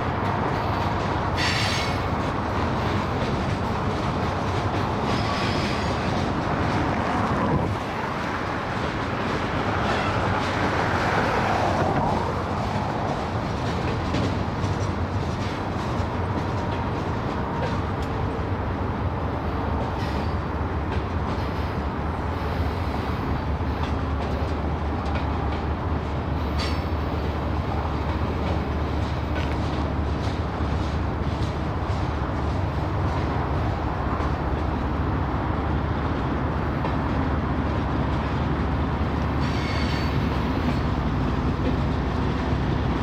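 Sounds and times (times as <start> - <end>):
freight cars rumbling on rail: 0.0 - 43.0.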